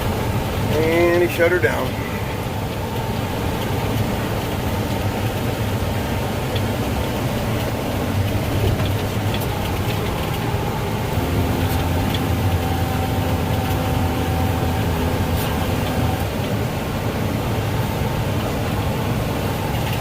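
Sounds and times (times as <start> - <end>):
combine harvester cab drone: 0.0 - 20.0
faint steady whine: 0.0 - 20.0.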